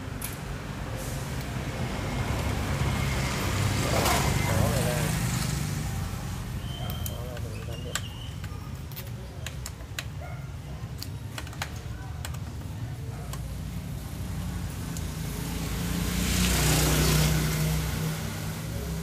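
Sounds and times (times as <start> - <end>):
road noise rush: 0.0 - 19.0.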